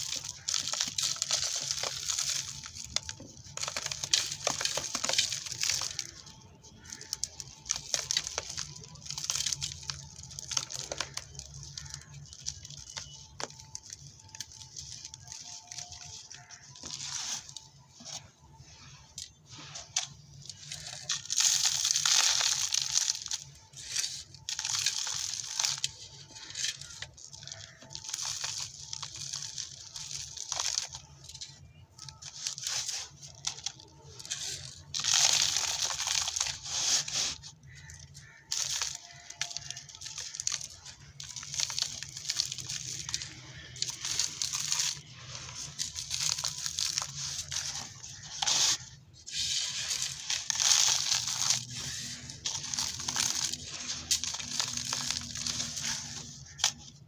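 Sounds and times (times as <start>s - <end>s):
dry dirt crunching: 0.0s - 57.0s.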